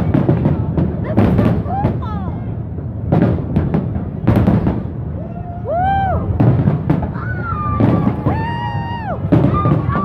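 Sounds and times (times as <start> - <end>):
fireworks booming: 0.0 - 5.2, 5.8 - 10.0
continuous low rumble: 0.0 - 10.0.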